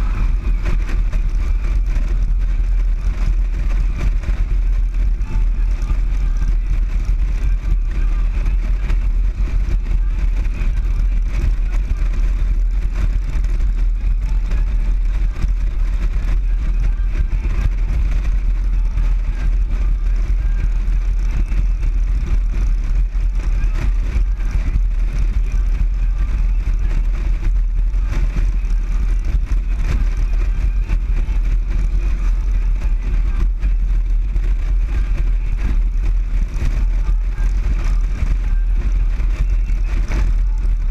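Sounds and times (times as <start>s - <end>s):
motorcycle engine rumble: 0.0s - 40.9s
wind buffeting microphone: 0.0s - 40.9s.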